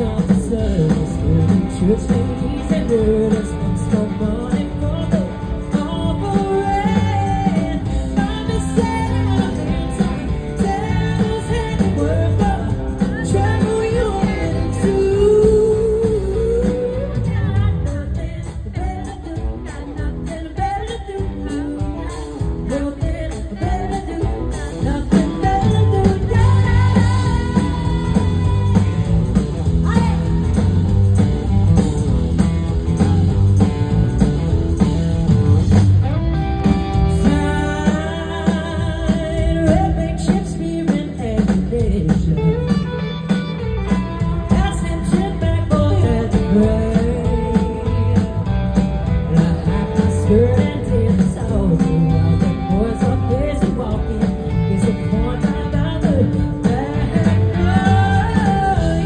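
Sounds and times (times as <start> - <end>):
woman singing lead: 0.0 - 34.2, 35.1 - 59.0
drums: 0.0 - 59.0
electric guitar: 0.0 - 59.0.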